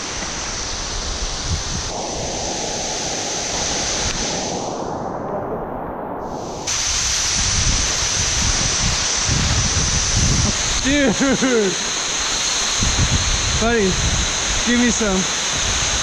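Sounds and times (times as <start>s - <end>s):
waterfall pouring over rock: 0.0s - 4.7s, 6.7s - 16.0s.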